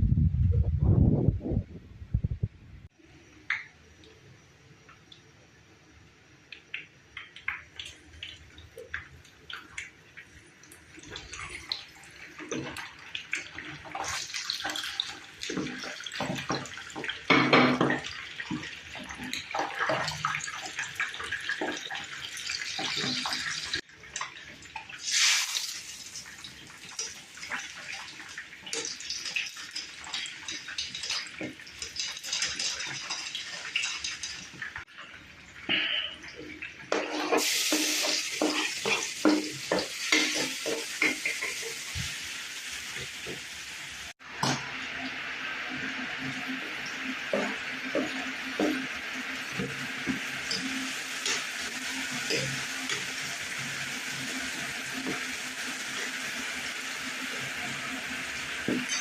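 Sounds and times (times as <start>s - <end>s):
water running and splashing: 6.7s - 59.0s.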